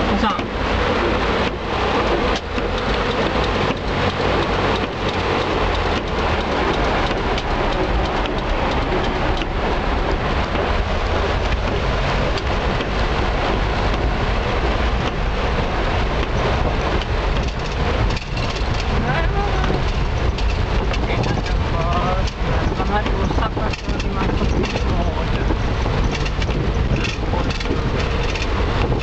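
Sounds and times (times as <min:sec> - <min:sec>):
car driving rumble: 0:00.0 - 0:29.0
heavy rain on car roof: 0:00.0 - 0:29.0.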